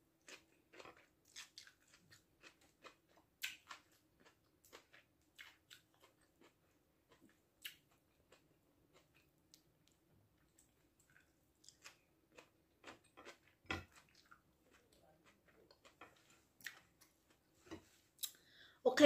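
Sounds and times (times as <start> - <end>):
person chewing: 0.2 - 18.6.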